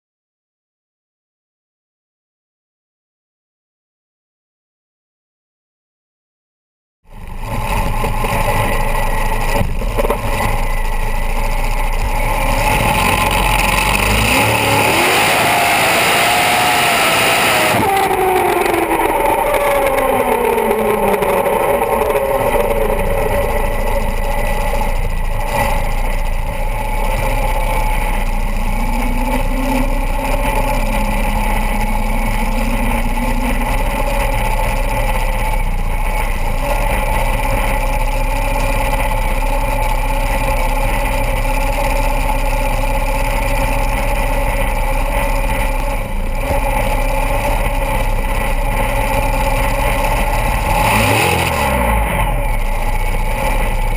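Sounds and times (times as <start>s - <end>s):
dragster engine running: 7.1s - 53.9s.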